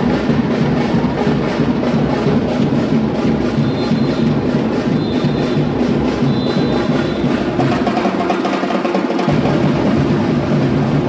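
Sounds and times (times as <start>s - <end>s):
percussion ensemble drumming: 0.0s - 11.0s.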